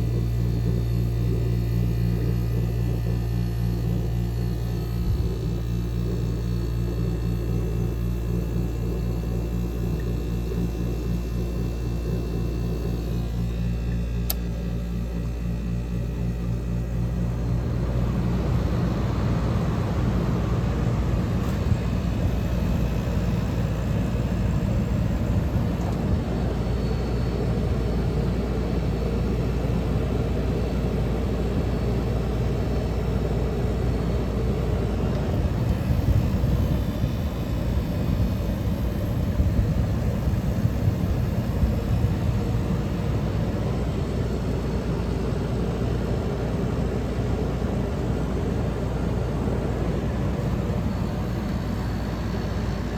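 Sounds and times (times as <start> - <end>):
air conditioner fan air: 0.0 - 52.9
low compressor hum: 0.0 - 52.9.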